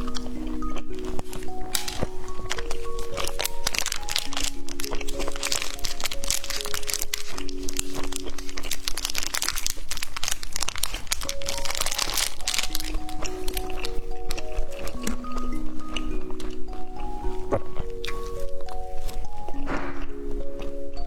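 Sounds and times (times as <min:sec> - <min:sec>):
background music with held notes: 0:00.0 - 0:21.0
candy packaging crinkling: 0:00.0 - 0:21.0.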